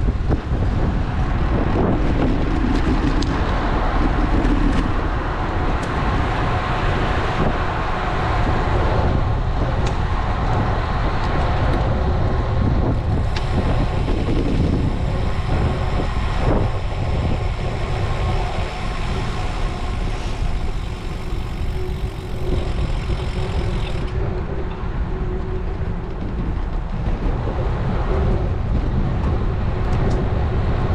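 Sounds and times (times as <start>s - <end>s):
road and traffic noise: 0.0s - 30.9s
steady hum of passing vehicle: 0.0s - 30.9s
wind rumbling on microphone: 0.0s - 30.9s.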